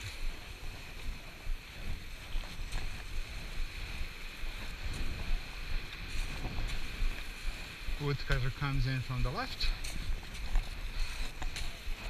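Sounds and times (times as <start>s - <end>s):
skis hissing on snow: 0.0s - 12.0s
wind buffeting microphone: 0.0s - 12.0s.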